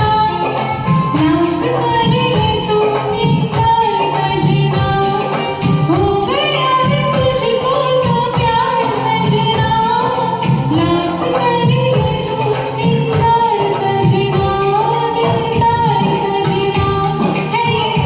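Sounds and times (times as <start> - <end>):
film song with singing: 0.0 - 18.0.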